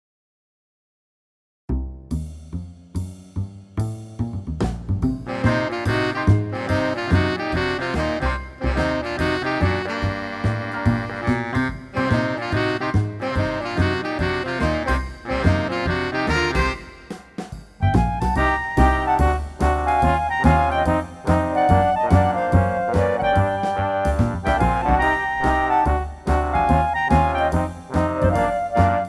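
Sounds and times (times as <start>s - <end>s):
jazz music with saxophone and brass: 4.6s - 29.0s.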